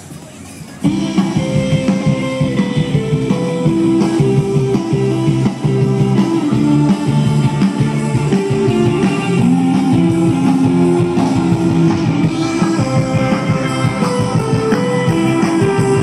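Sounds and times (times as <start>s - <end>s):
loud music over sound system: 0.8s - 16.0s.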